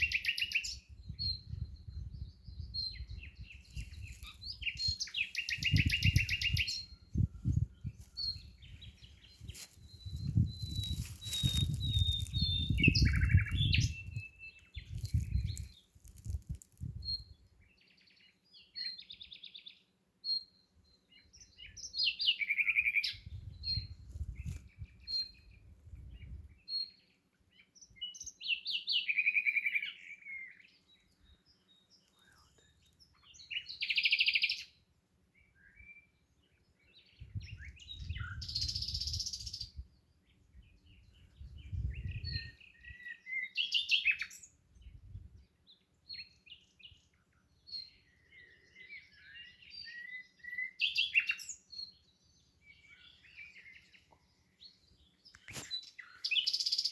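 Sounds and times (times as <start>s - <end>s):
songbirds chirping and singing: 0.0s - 56.9s.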